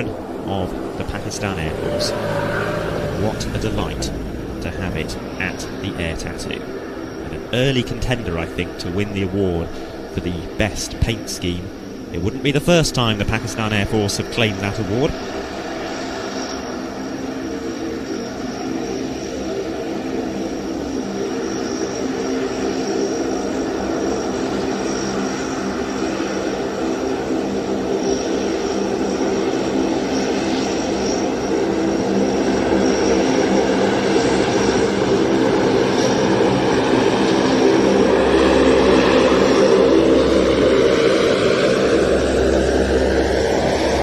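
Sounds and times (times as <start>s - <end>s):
turboprop engines running: 0.0s - 44.0s.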